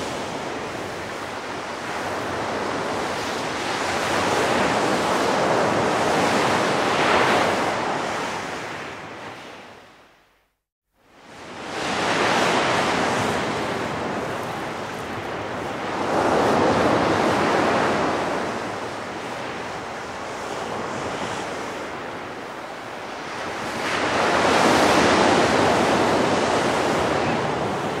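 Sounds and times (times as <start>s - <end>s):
waves breaking on beach: 0.0s - 9.6s, 11.2s - 28.0s.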